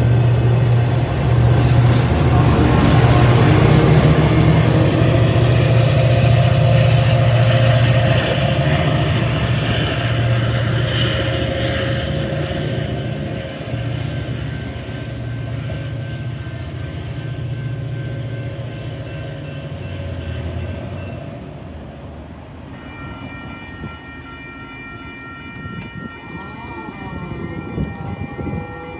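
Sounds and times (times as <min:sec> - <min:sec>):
diesel locomotive running: 0:00.0 - 0:28.9.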